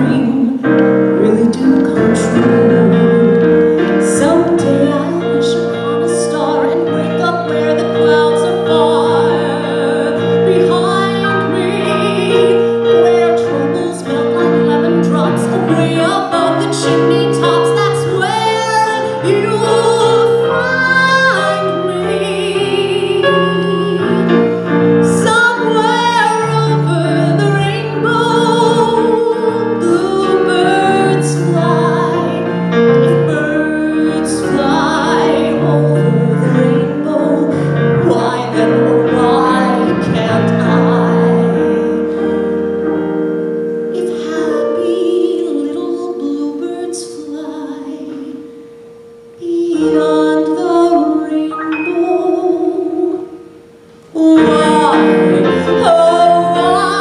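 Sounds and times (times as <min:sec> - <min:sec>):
piano accompaniment: 0:00.0 - 0:57.0
woman singing: 0:00.0 - 0:57.0.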